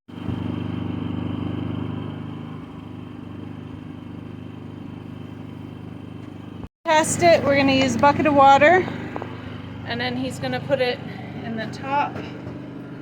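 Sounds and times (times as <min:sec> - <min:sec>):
engine running: 0:00.1 - 0:13.0.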